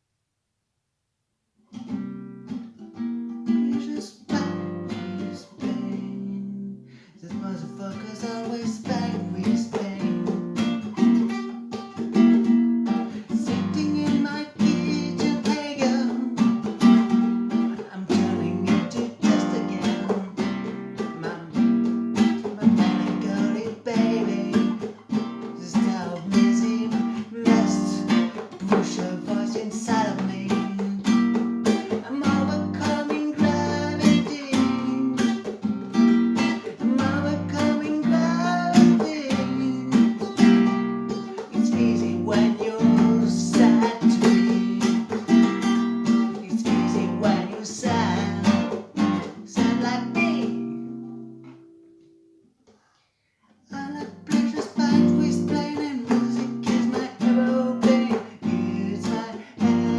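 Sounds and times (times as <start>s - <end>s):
acoustic guitar strumming chords: 1.8s - 52.3s, 53.7s - 59.9s.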